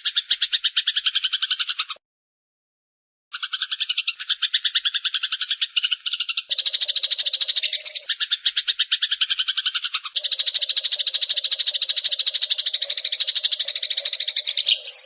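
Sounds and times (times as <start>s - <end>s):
sparrows chattering chirps: 0.0s - 2.0s, 3.3s - 15.0s.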